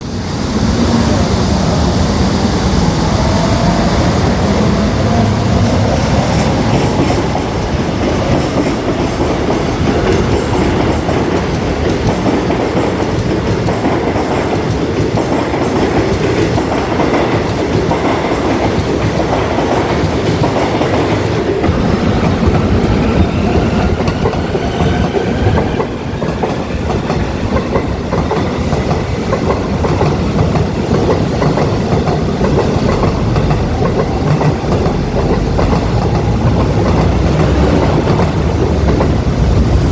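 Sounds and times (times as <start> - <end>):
train running on rails: 0.0 - 39.9.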